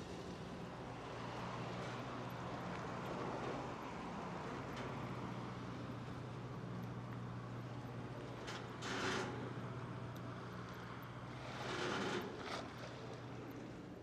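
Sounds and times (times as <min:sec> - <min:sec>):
low machinery hum: 0:00.0 - 0:14.0.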